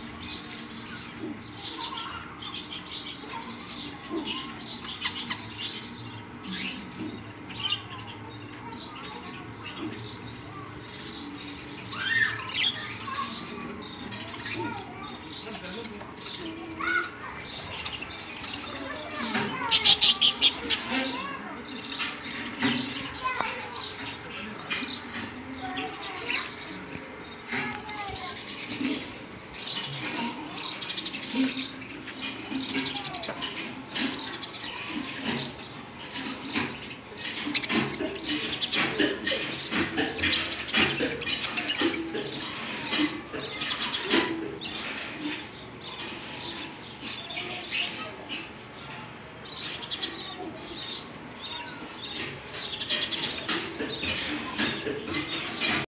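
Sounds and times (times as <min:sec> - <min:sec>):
budgerigars chattering and chirping: 0:00.0 - 0:55.8.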